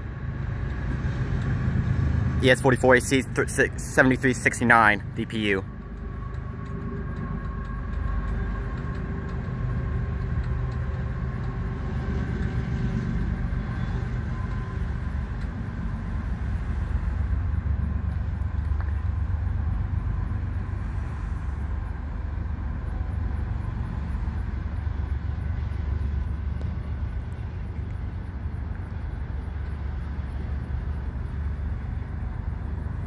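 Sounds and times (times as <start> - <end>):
distant train cars rumbling: 0.0 - 33.0.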